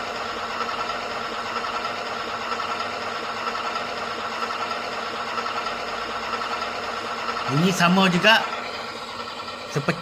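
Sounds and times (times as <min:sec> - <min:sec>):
simulated engine idle from speaker: 0:00.0 - 0:10.0
steady high hum: 0:00.0 - 0:10.0.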